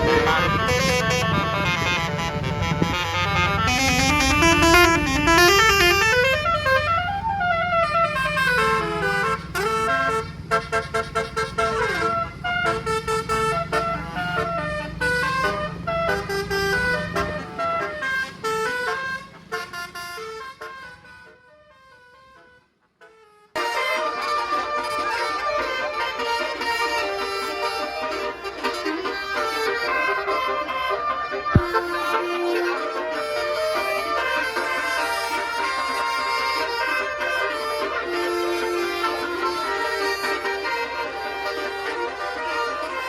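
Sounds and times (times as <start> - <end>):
bus engine hum: 0.0 - 43.0
bus melody horn: 0.0 - 43.0.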